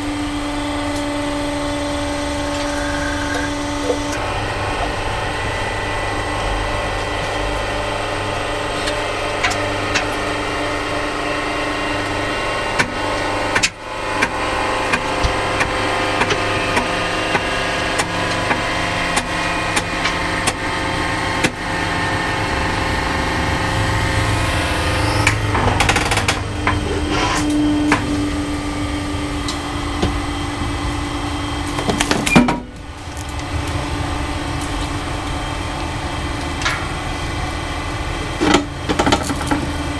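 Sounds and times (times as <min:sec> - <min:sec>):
hydraulic pump motor running: 0:00.0 - 0:39.9.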